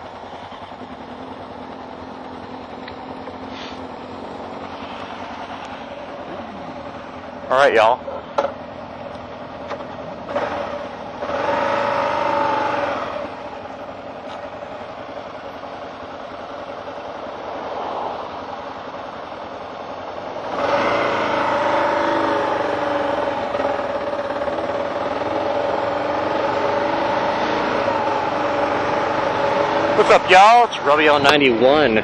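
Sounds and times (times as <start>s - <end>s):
motorcycle engines running: 0.0s - 32.0s.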